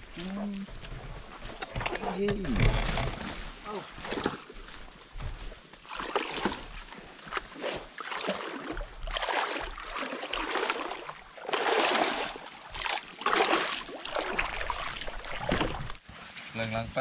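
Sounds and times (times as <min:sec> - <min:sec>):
water splashing and sloshing: 0:00.0 - 0:16.6.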